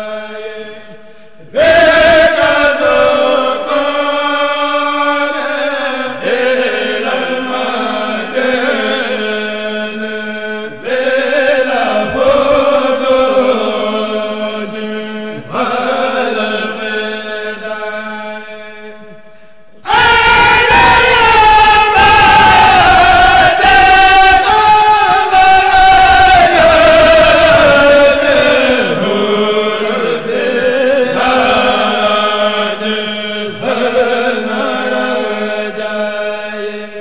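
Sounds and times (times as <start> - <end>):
men chanting through microphones: 0.0 - 19.1, 19.9 - 37.0.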